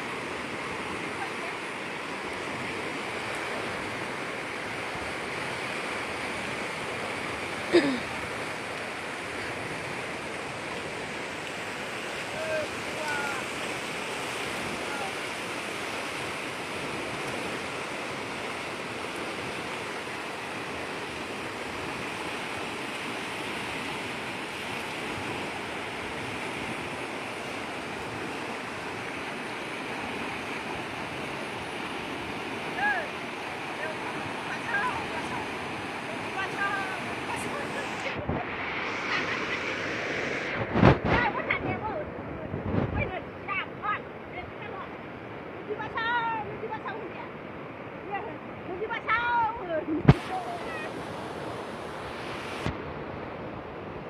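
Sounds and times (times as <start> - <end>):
fast-flowing river rushing: 0.0 - 54.0.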